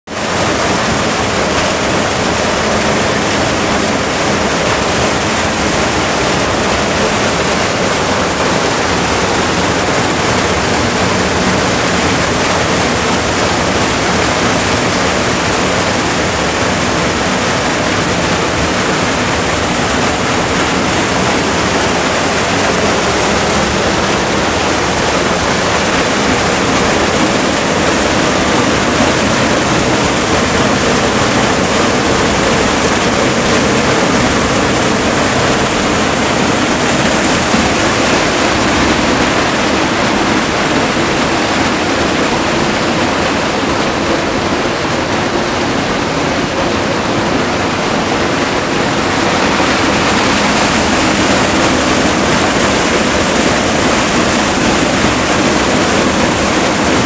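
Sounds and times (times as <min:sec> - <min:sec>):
waterfall splashing into pool: 0:00.1 - 0:57.0.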